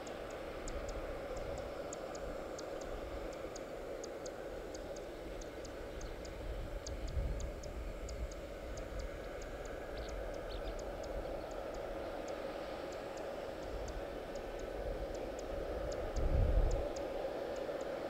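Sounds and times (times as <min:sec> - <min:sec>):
jet aircraft hum: 0:00.0 - 0:18.0
light high-pitched ticking: 0:00.0 - 0:18.0.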